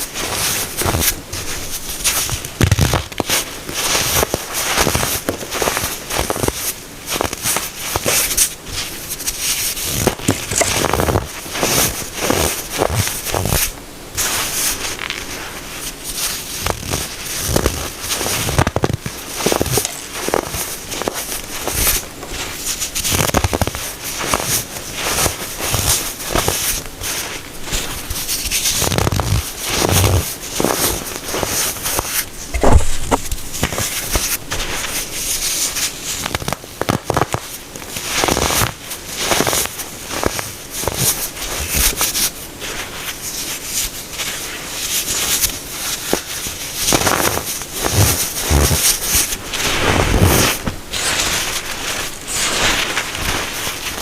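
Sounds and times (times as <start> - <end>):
baking soda crunching: 0.0 - 54.0.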